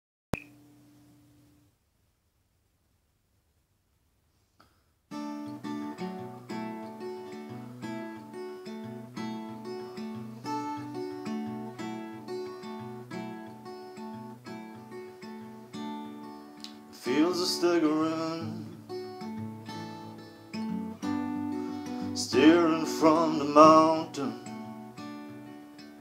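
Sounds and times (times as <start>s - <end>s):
acoustic guitar plucked chords: 5.1s - 26.0s.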